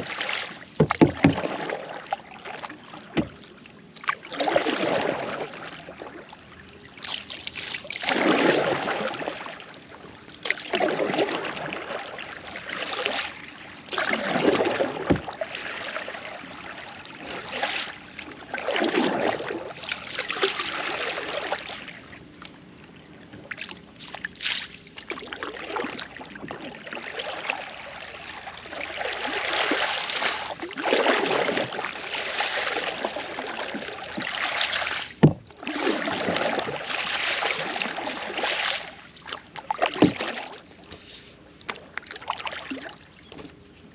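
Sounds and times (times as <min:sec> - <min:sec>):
water trickling off paddle: 0:00.0 - 0:05.8, 0:07.0 - 0:22.0, 0:28.7 - 0:43.9
kayak paddle splashing: 0:00.0 - 0:22.2, 0:23.4 - 0:43.5.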